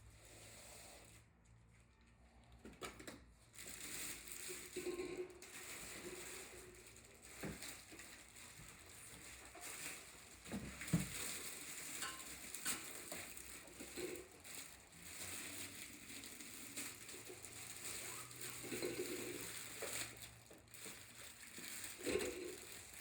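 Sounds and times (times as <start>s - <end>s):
rustling packaging: 2.8s - 23.0s.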